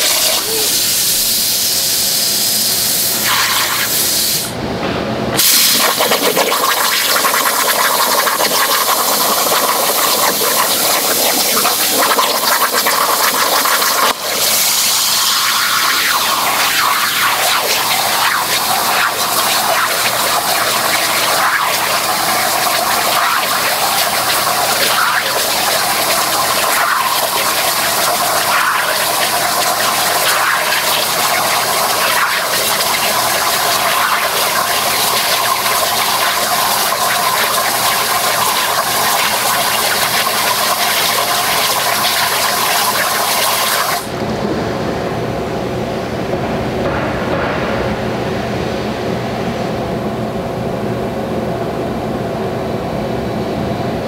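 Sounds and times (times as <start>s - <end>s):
plasma cutter rushing hiss: 0.0s - 4.6s, 5.4s - 44.1s.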